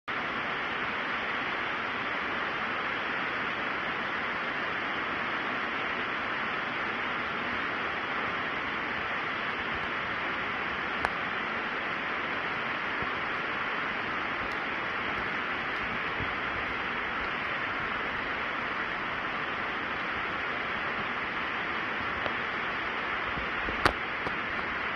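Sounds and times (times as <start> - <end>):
steady hiss: 0.1 - 24.9.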